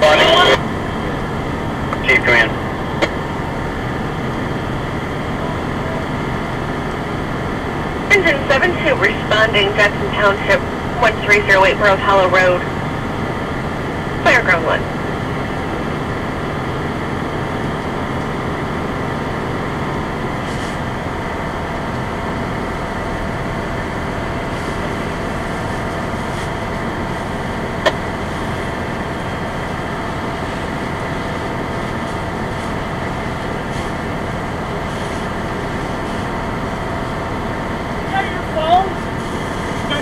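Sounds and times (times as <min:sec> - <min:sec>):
fire engine running: 0:00.0 - 0:40.0.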